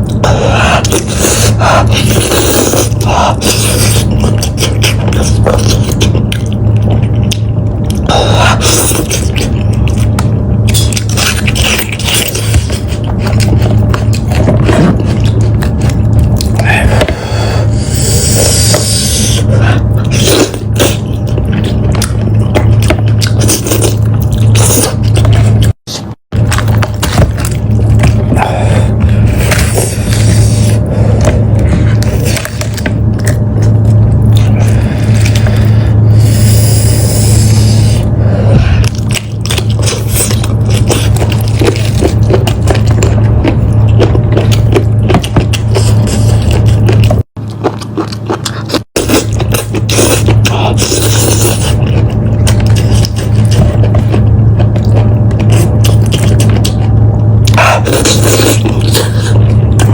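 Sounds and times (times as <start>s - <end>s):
meat being chewed: 0.0s - 59.9s
steady low hum: 0.0s - 59.9s.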